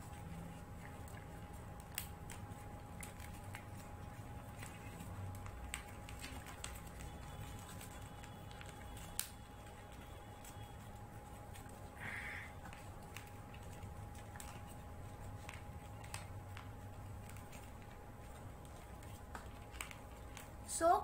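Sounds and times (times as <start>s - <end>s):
paper crinkling and rustling: 0.0s - 20.7s
faint steady hum: 0.0s - 21.0s.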